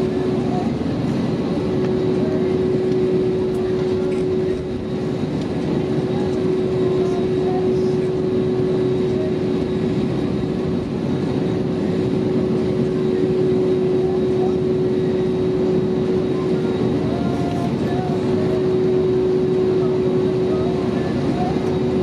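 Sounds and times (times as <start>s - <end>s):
constant engine hum: 0.0s - 22.0s
jet engines rumbling in cabin: 0.0s - 22.0s.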